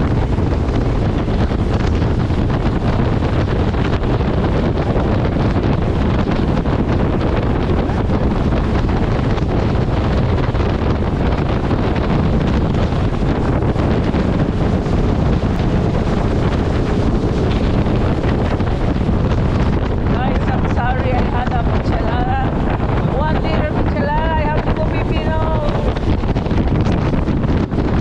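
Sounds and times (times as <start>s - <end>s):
boat engine: 0.0s - 28.0s
water rushing: 0.0s - 28.0s
wind buffeting microphone: 0.0s - 28.0s.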